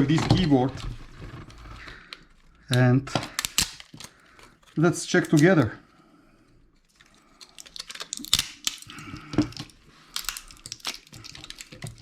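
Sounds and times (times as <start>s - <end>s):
plastic parts cracking and clicking: 0.0s - 5.8s, 6.8s - 12.0s.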